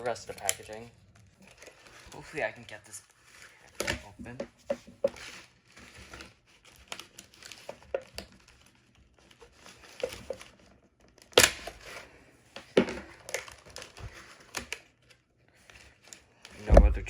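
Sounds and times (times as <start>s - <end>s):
packaging crinkling and tearing: 0.0s - 4.4s, 5.0s - 16.9s
sharp cracks of packaging: 0.0s - 16.8s.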